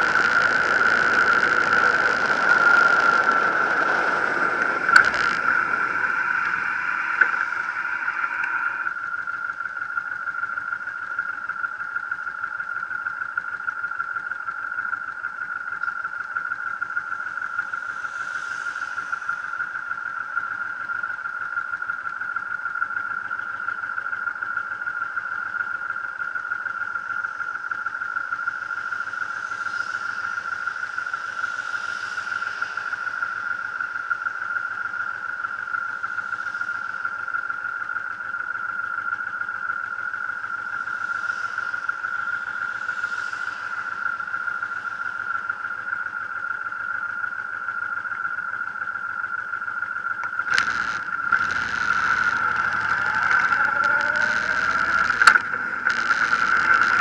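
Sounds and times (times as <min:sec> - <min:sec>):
high-pitched whine: 0:00.0 - 0:57.0.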